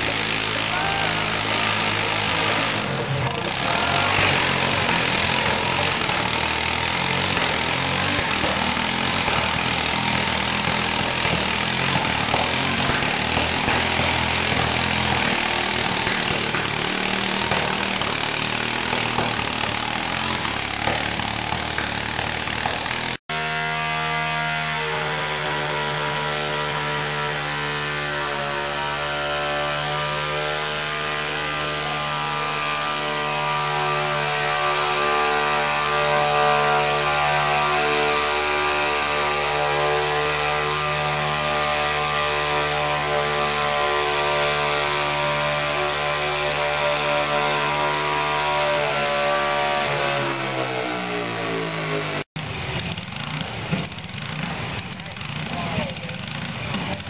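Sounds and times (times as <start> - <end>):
small engine running hard: 0.0 - 57.0.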